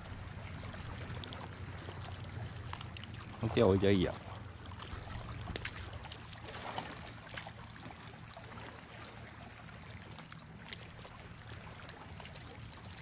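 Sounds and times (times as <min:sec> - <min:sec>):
distant motorboat engines droning: 0:00.0 - 0:13.0.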